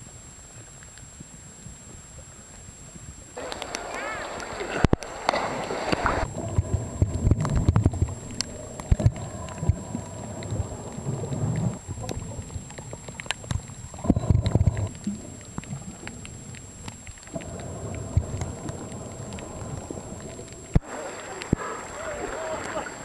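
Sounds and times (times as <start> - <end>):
underwater surging water: 0.0 - 23.0
sharp underwater clicks: 3.4 - 22.8.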